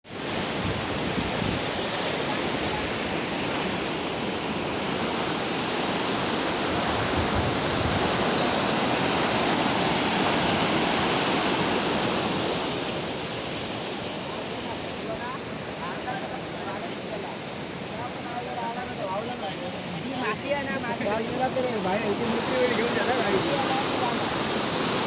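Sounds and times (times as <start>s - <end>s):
floodwater rushing: 0.1s - 25.0s.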